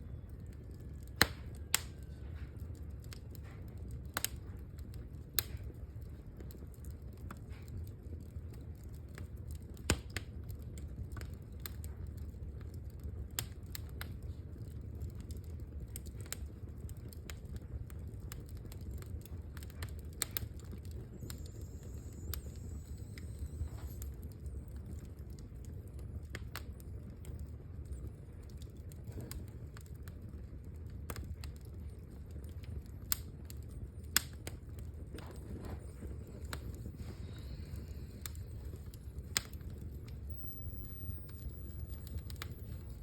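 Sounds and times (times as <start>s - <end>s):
low rumble of burning: 0.0s - 43.0s
wood fire crackling: 0.0s - 43.0s.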